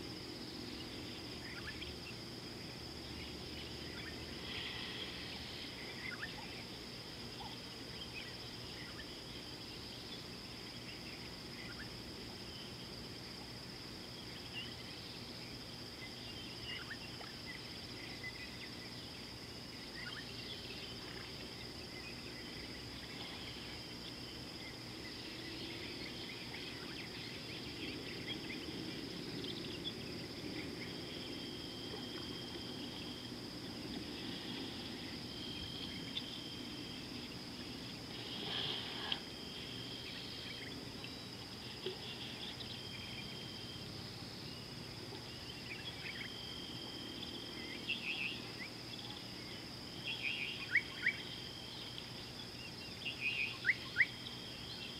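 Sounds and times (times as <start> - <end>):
insect trills: 0.0 - 54.9.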